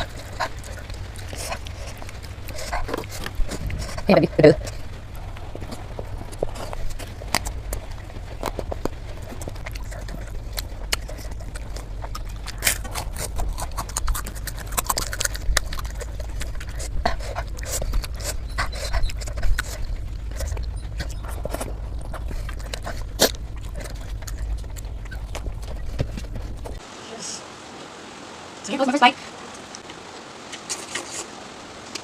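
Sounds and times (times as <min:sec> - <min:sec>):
steady low hum: 0:00.0 - 0:26.8.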